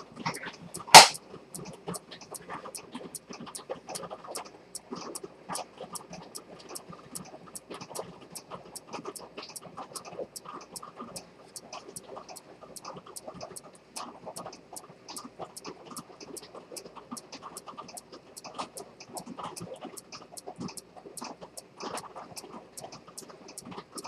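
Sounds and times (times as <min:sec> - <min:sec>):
pocket watch ticking: 0:00.0 - 0:24.0.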